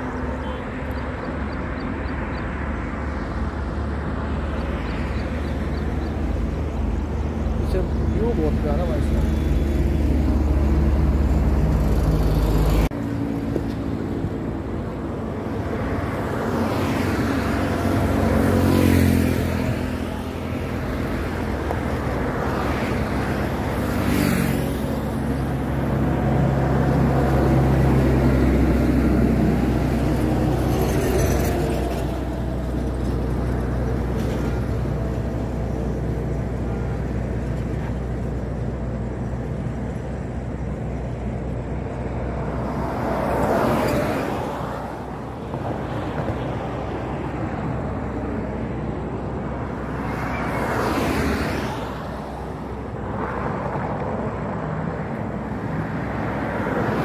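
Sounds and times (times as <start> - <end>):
traffic rumble: 0.0 - 57.0
vehicles passing close by: 0.0 - 57.0.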